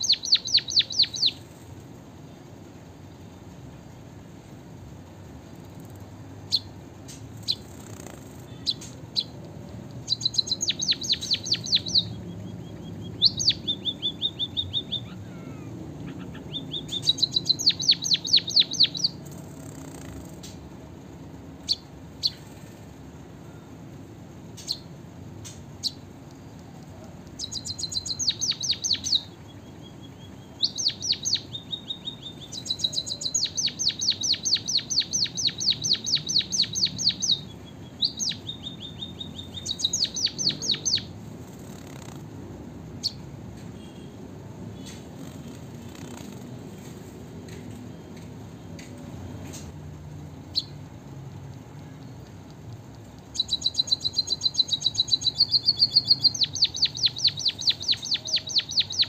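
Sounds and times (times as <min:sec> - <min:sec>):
bird singing chattering song: 0:00.0 - 0:03.6, 0:05.3 - 0:23.7, 0:24.4 - 0:59.0.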